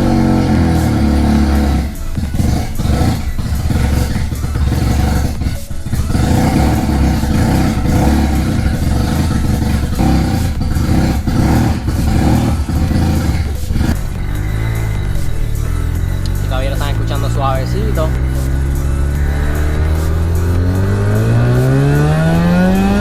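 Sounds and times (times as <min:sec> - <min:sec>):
rotary engine running: 0:00.0 - 0:23.0.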